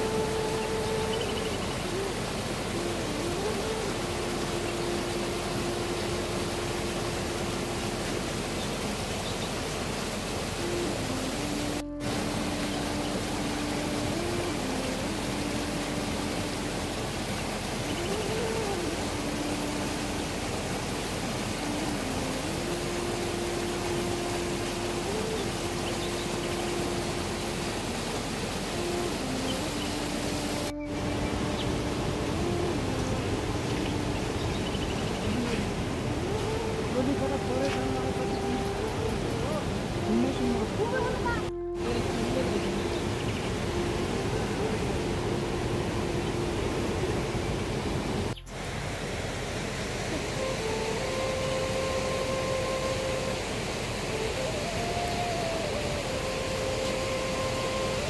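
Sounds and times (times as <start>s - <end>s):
faint humming tone: 0.0s - 58.0s
steady rain hiss: 0.0s - 58.0s.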